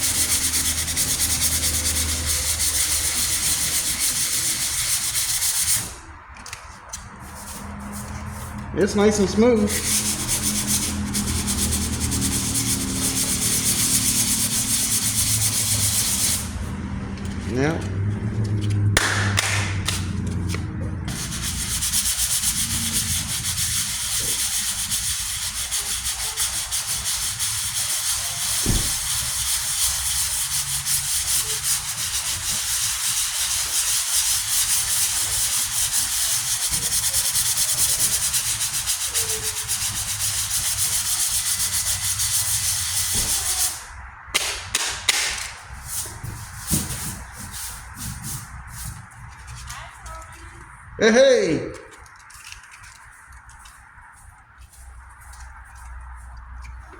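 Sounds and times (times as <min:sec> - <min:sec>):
sandpaper scrubbing on filler: 0:00.0 - 0:50.8, 0:51.8 - 0:56.9.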